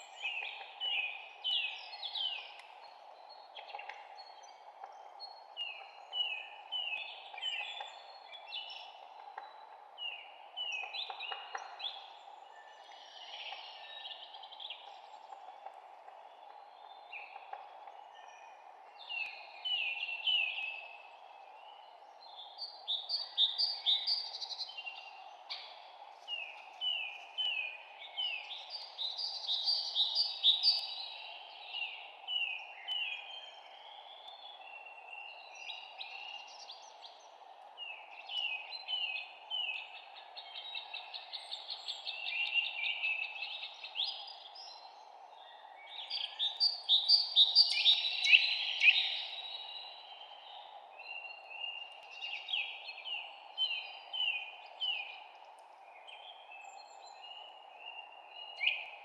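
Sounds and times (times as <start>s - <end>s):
low background hiss: 0.0s - 59.0s
songbirds chirping and singing: 0.0s - 59.0s.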